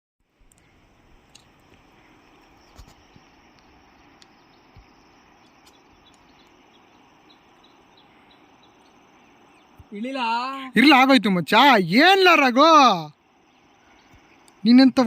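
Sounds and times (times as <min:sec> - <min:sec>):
steady hiss: 0:00.3 - 0:15.0.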